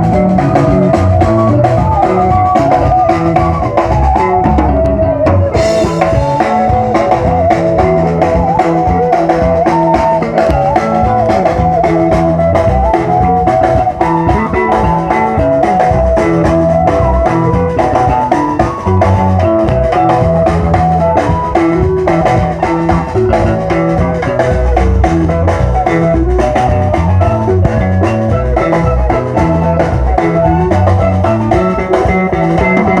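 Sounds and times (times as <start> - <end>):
drum kit beat: 0.0 - 33.0
guitars: 0.0 - 33.0.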